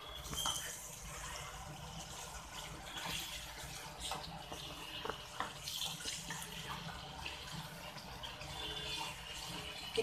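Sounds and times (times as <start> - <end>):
gravy sizzling: 0.0 - 10.0.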